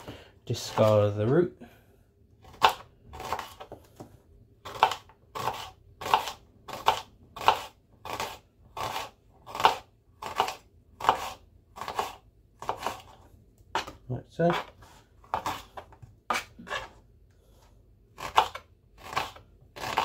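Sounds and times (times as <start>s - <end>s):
knife slicing onion on chopping board: 0.6s - 1.1s, 2.4s - 17.0s, 18.1s - 20.0s.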